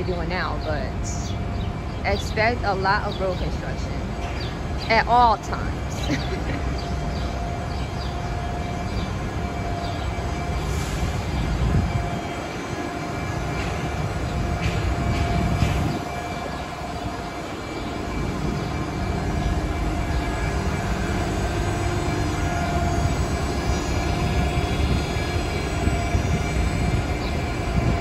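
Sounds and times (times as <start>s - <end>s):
bus engines idling: 0.0s - 28.0s.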